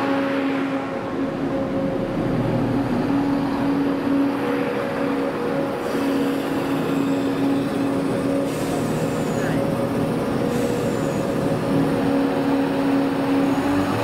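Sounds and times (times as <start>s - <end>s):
train equipment humming: 0.0s - 14.0s.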